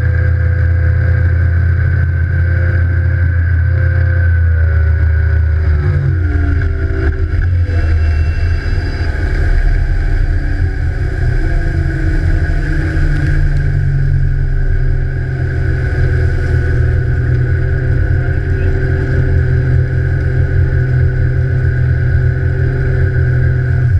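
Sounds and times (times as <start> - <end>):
outboard engine running: 0.0 - 23.9.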